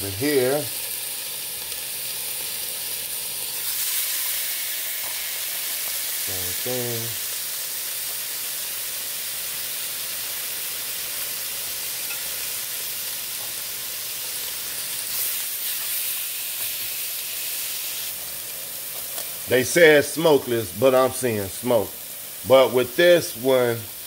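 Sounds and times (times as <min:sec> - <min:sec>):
meat sizzling on a grill: 0:00.0 - 0:24.0.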